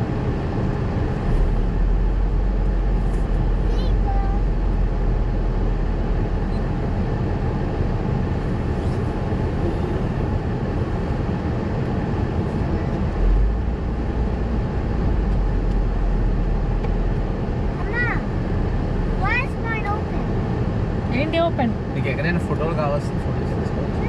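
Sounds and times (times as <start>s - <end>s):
engine and road noise: 0.0s - 24.0s.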